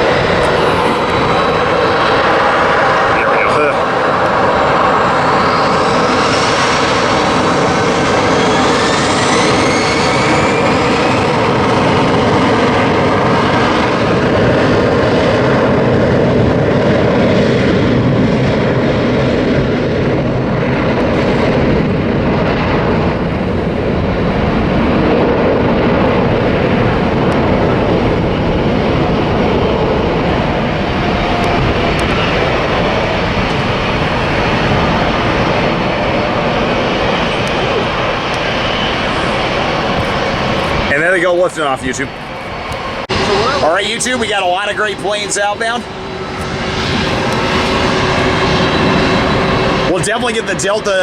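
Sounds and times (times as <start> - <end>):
jet engines roaring at takeoff: 0.0 - 51.0.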